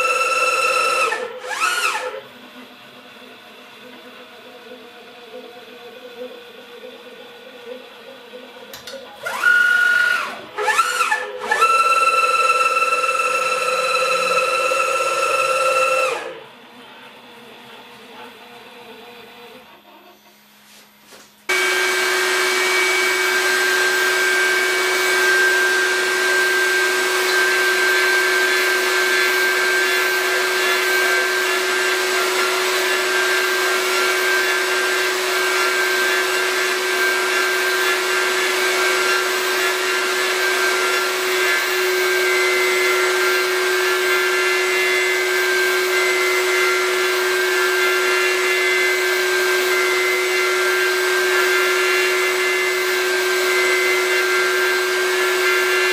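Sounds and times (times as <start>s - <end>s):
router motor whining: 0.0s - 5.5s, 9.2s - 16.6s, 21.5s - 55.9s.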